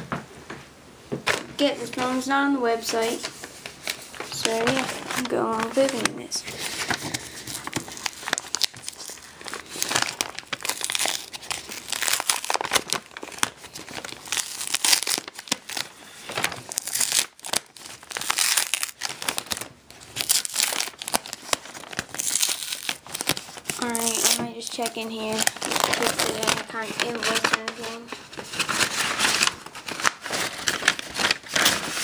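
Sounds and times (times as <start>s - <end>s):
envelope crinkling: 1.2s - 32.0s
envelope tearing: 3.0s - 32.0s.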